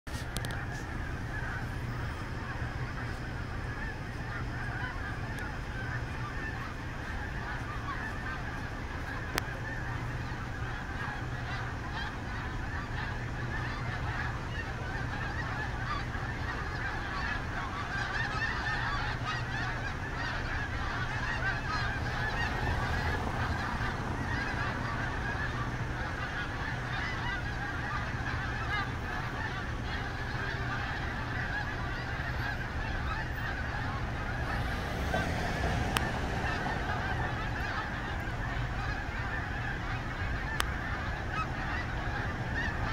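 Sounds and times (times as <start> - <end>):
low steady hum: 0.1 - 42.9
snow geese honking: 0.1 - 42.9.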